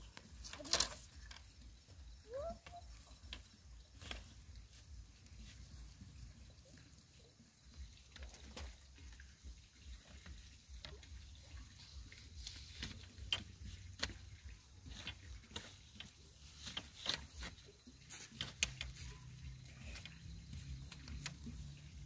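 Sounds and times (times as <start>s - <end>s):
bamboo strips knocking together: 0.0s - 5.7s, 10.0s - 22.0s.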